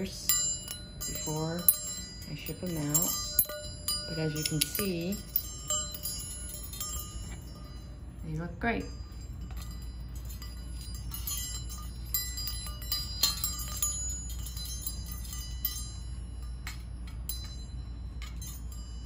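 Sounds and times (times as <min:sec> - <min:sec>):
metal wind chime tinkling: 0:00.0 - 0:19.0.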